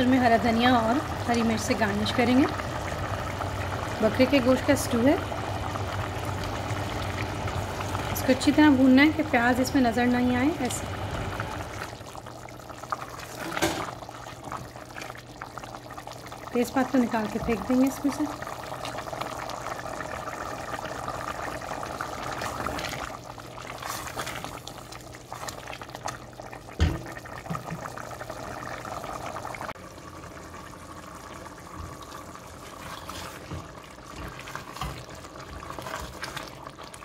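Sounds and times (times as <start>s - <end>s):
stew bubbling in a pot: 0.0s - 37.0s.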